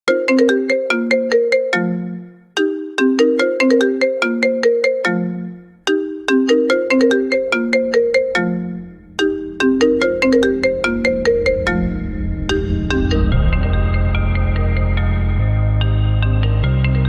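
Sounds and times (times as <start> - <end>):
ringtone melody remix: 0.1 - 17.0.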